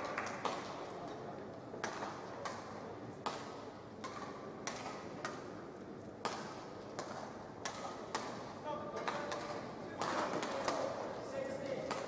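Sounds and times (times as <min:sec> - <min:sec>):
rackets hitting shuttlecock: 0:00.0 - 0:00.9, 0:01.8 - 0:05.6, 0:06.2 - 0:12.0.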